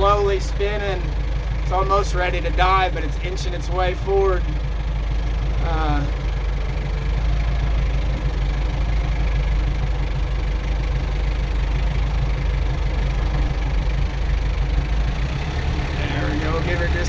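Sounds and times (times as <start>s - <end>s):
tractor engine lugging: 0.0s - 17.0s.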